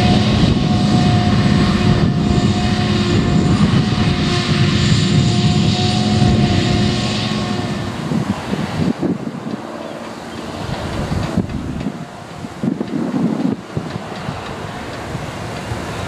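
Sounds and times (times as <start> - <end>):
constant high whine: 0.0 - 16.0
loud engine drone: 0.0 - 16.0.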